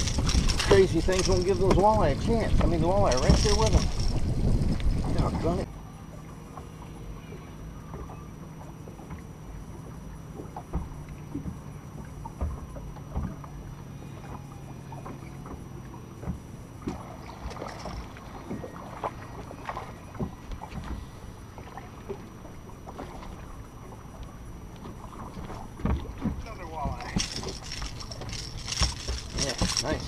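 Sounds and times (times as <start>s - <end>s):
low steady hum: 0.0s - 30.0s
small waves slapping a boat hull: 0.0s - 30.0s.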